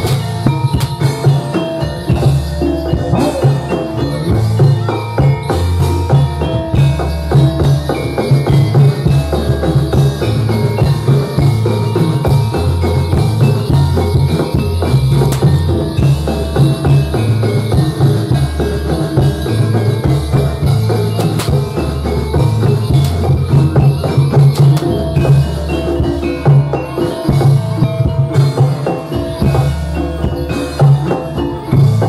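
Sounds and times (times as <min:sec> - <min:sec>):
metallophones playing fast melody: 0:00.0 - 0:32.0
steady drum beats: 0:00.0 - 0:32.0.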